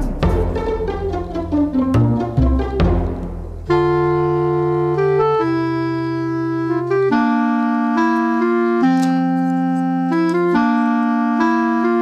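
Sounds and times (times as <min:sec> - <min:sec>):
keyboard chords over bass line: 0:00.0 - 0:12.0.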